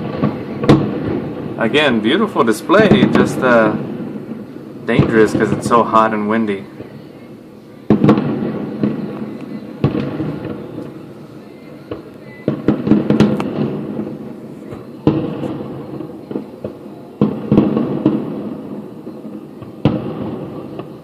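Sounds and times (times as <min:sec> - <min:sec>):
distant fireworks booming: 0:00.0 - 0:21.0.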